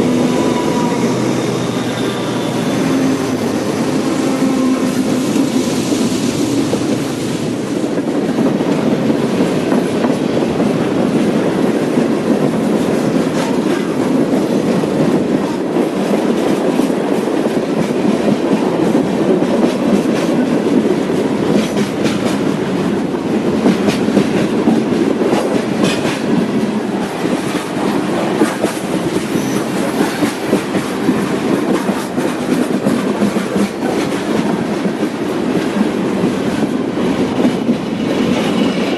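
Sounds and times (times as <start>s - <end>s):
freight train cars rumbling: 0.0s - 38.9s.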